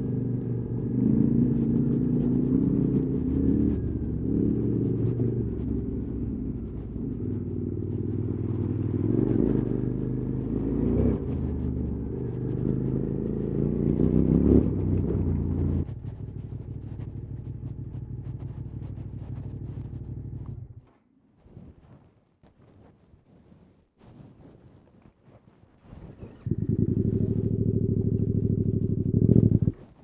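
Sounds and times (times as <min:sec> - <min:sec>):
motorcycle engine revving: 0:00.0 - 0:20.8, 0:26.2 - 0:29.9.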